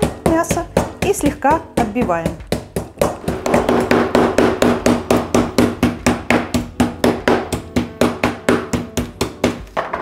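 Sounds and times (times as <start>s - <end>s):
meat mallet pounding steak: 0.0s - 10.0s.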